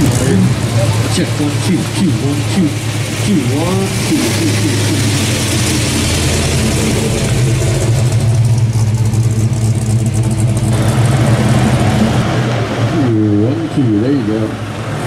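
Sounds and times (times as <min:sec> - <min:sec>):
car engine and exhaust: 0:00.0 - 0:15.0.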